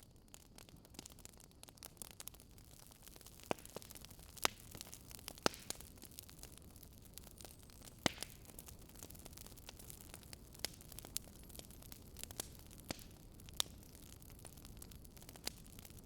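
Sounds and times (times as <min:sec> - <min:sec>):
firewood crackling: 0:00.0 - 0:16.0.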